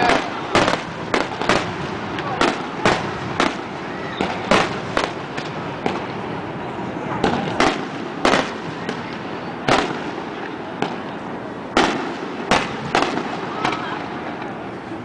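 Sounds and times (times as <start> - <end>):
fireworks bangs: 0.0 - 14.8.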